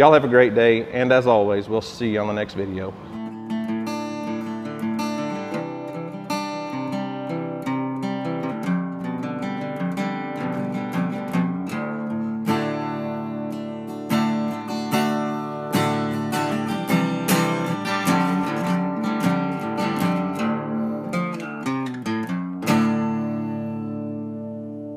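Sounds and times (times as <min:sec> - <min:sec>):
acoustic guitar music: 0:00.0 - 0:24.9.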